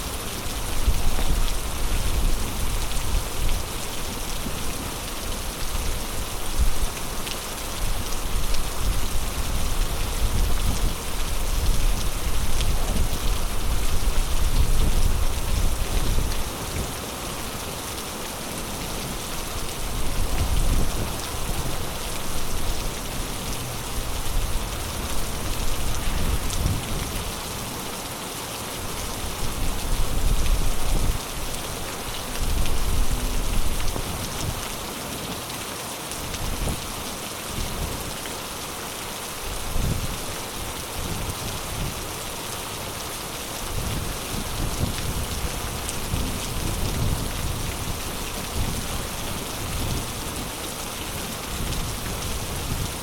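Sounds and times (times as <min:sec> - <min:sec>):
heavy rain hiss: 0:00.0 - 0:53.0.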